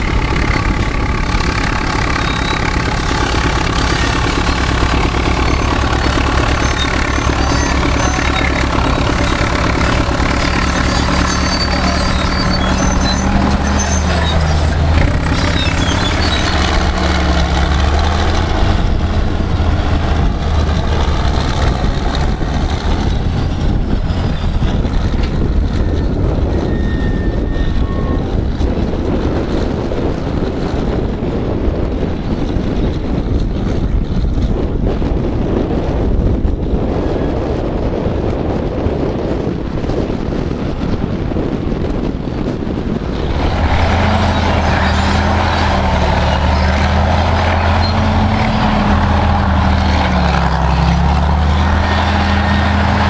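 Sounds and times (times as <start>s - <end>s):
heavy diesel engines under load: 0.0s - 53.0s
wind noise on microphone: 0.0s - 53.0s.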